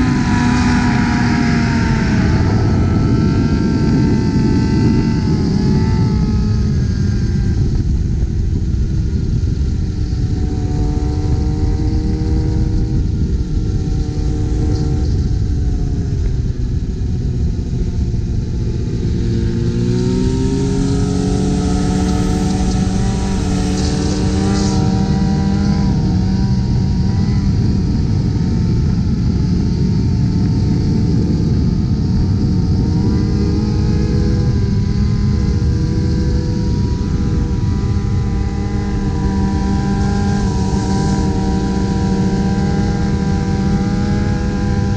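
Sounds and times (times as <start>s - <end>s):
heavy wind: 0.0s - 44.9s
motorcycle engines running: 0.0s - 44.9s
road rumble: 0.0s - 44.9s.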